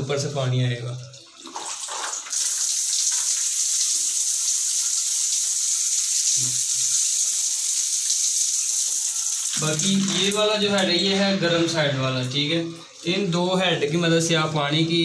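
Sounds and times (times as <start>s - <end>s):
shower water spraying: 1.5s - 13.6s.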